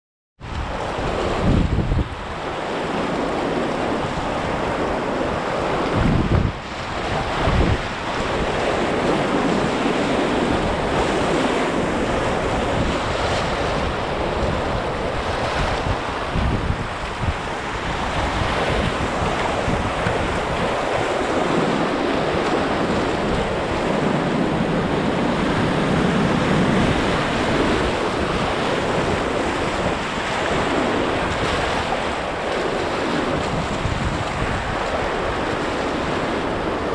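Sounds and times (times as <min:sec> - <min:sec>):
wind buffeting microphone: 0:00.4 - 0:36.9
whitewater rushing: 0:00.6 - 0:36.9.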